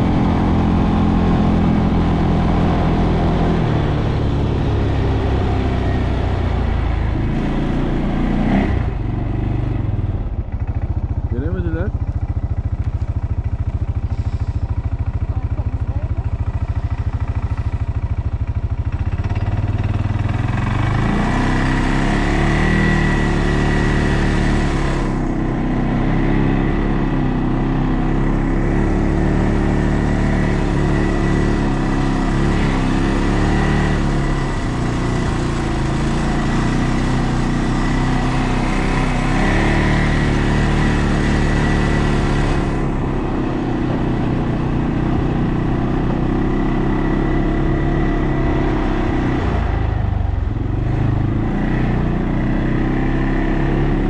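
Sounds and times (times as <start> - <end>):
atv engine idling and revving: 0.0 - 54.0.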